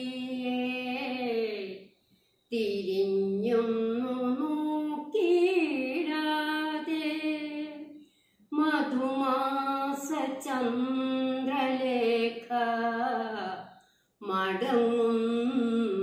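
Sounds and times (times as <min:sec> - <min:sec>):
woman singing unaccompanied: 0:00.0 - 0:01.8, 0:02.5 - 0:13.6, 0:14.2 - 0:16.0.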